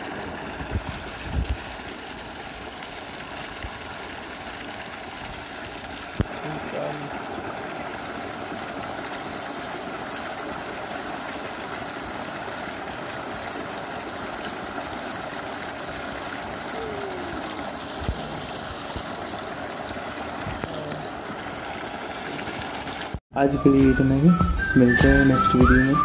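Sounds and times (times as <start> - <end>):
water gushing into flooded field: 0.0 - 26.0.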